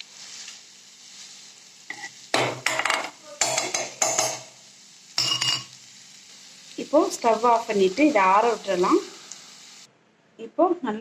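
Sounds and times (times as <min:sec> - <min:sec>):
faint sizzle of pan: 0:00.0 - 0:09.9.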